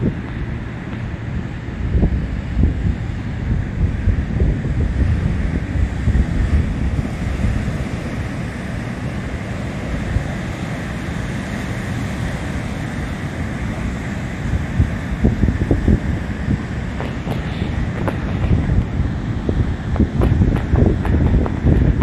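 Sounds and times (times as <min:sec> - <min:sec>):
surf breaking on shore: 0:00.0 - 0:22.0
wind buffeting microphone: 0:00.0 - 0:22.0.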